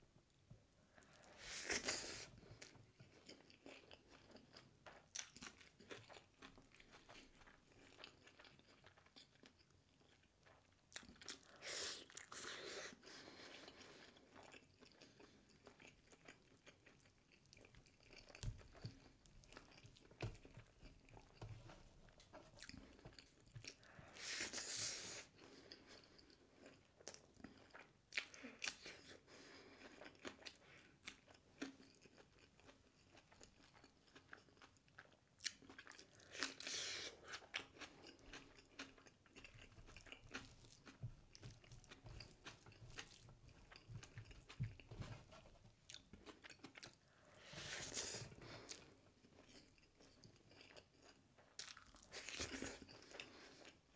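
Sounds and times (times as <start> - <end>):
chewing and crunchy bites: 1.0 - 53.9.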